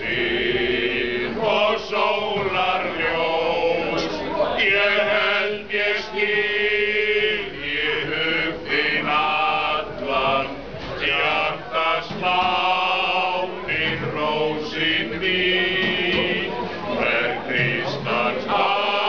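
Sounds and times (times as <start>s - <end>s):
men singing in unison: 0.0s - 19.0s.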